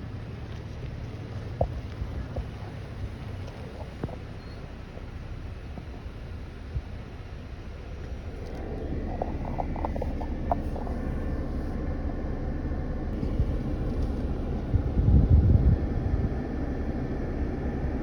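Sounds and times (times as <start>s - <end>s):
off-road vehicle engine rumbling: 0.0s - 18.0s.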